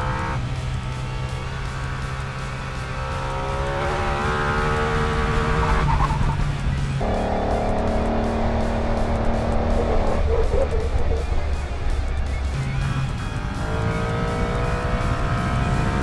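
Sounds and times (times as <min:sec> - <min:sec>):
background music: 0:00.0 - 0:16.0
motorcycle engine accelerating: 0:00.0 - 0:16.0.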